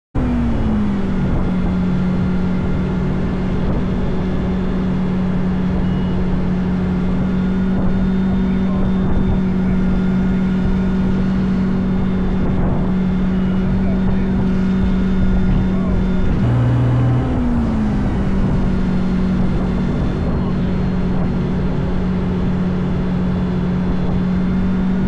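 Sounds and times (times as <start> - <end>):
engine running steadily: 0.1 - 25.0.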